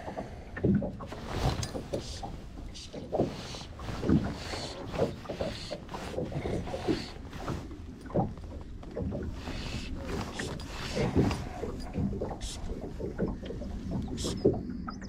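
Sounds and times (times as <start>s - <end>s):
waves lapping against boat hull: 0.0s - 15.0s.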